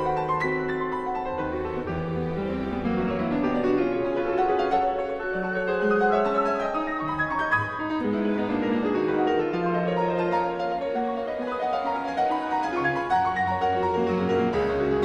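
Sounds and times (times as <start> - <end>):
classical piano music: 0.0 - 15.0.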